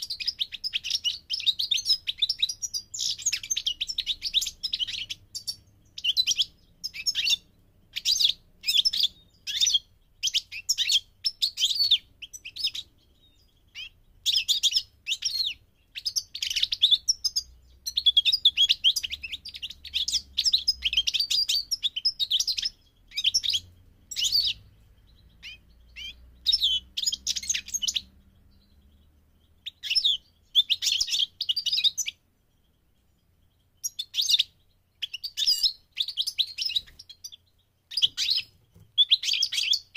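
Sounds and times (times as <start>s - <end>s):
goldfinch singing: 0.0s - 39.9s.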